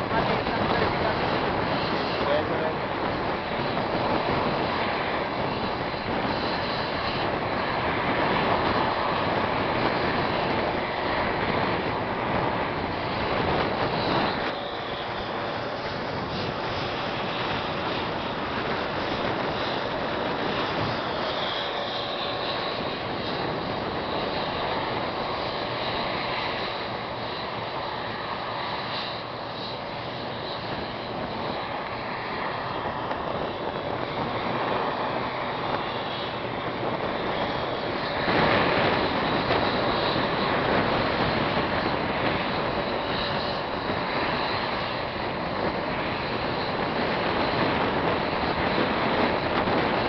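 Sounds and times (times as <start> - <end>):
jet engines running: 0.0 - 50.0.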